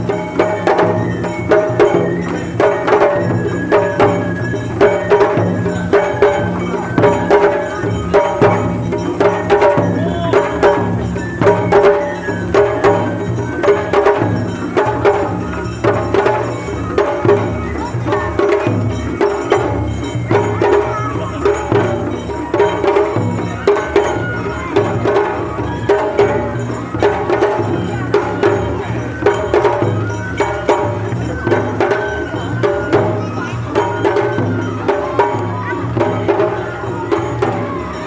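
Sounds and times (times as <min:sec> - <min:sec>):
drum beats: 0:00.0 - 0:38.0
sharp percussion strikes: 0:00.0 - 0:38.0.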